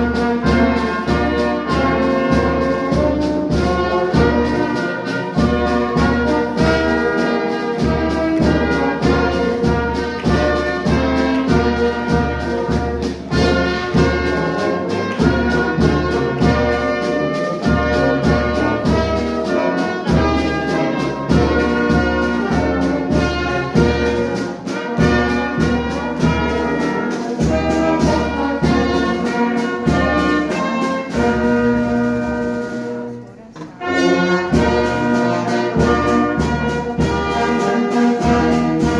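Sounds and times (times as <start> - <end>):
brass band playing: 0.0 - 38.9.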